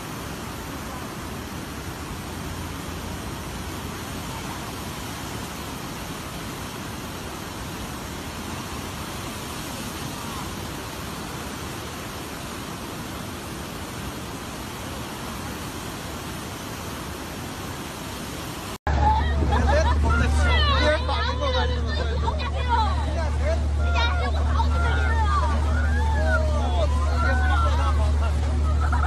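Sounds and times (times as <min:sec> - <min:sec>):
rushing floodwater: 0:00.0 - 0:29.0.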